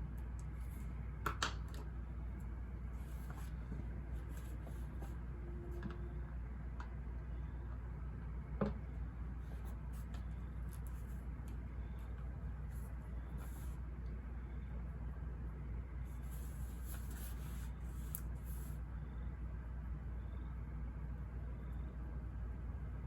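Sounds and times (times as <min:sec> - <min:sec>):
low white-noise hum: 0:00.0 - 0:23.0.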